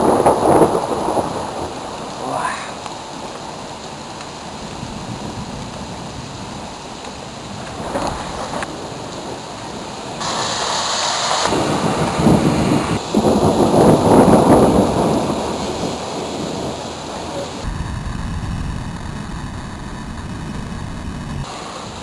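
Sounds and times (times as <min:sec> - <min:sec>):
thunder rumbling: 0:00.0 - 0:03.6, 0:04.5 - 0:22.0
steady rain: 0:00.0 - 0:22.0.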